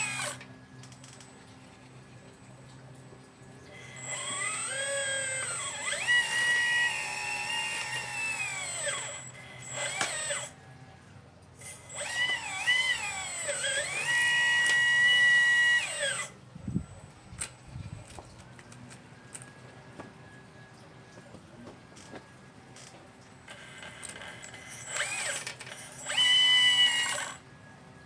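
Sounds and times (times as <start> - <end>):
electric motors whining: 0.0 - 28.0.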